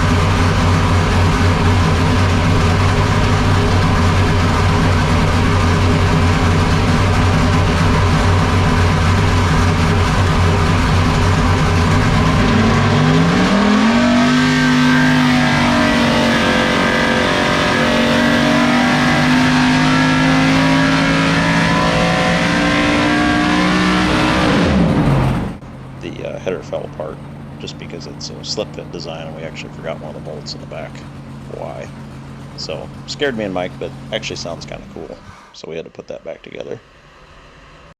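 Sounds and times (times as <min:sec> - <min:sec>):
vee-eight engine revving on dyno: 0:00.0 - 0:35.5.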